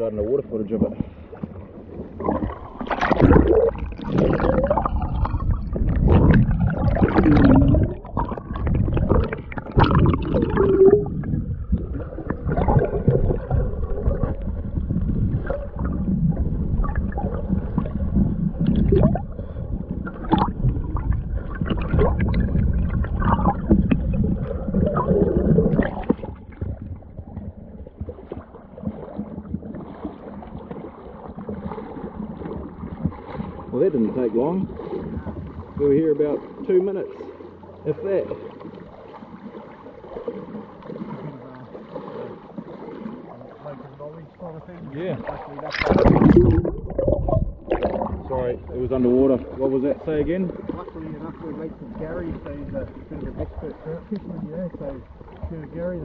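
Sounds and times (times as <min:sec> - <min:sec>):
muffled underwater gurgling: 0:00.0 - 0:56.0.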